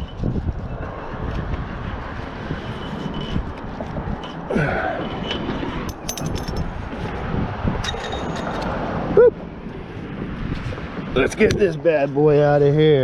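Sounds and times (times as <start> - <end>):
wind on microphone: 0.0 - 12.6
highway traffic rumble: 0.0 - 13.0.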